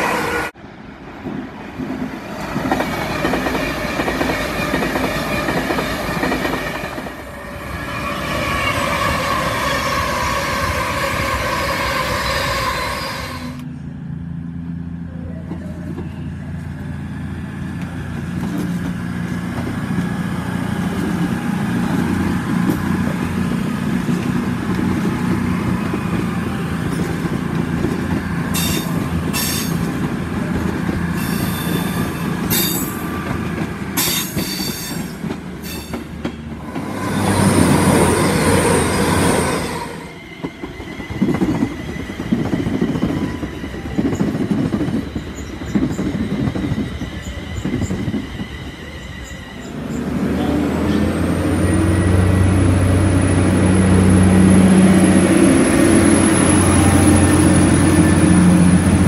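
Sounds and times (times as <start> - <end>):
electric train rushing past: 0.0 - 59.0.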